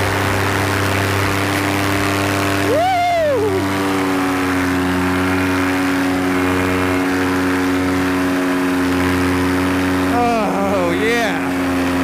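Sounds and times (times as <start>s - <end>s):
paramotor engine at high power: 0.0s - 12.0s.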